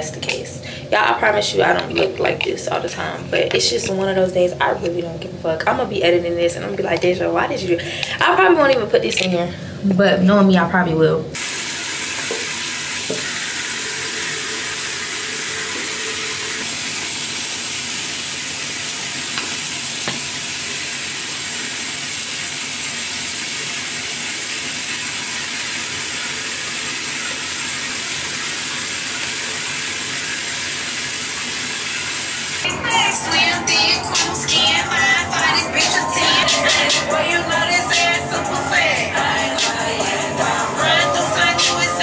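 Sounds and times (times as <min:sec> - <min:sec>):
tap water running into sink: 0:00.0 - 0:05.0, 0:11.4 - 0:42.0.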